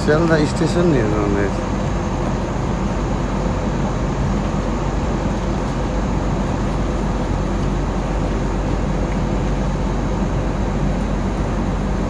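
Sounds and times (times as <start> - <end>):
airliner cabin rush: 0.0 - 12.0
faint steady hum: 0.0 - 12.0.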